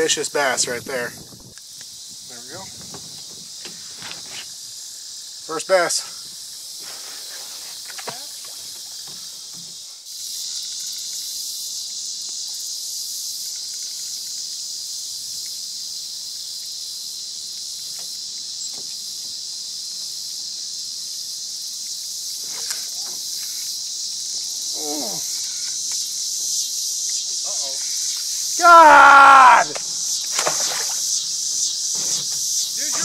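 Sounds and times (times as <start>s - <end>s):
insects buzzing and trilling: 0.0s - 33.0s.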